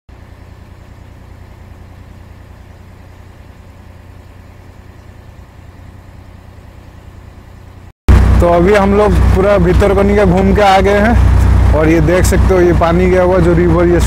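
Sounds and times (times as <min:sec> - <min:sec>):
engine idling: 0:00.1 - 0:14.0.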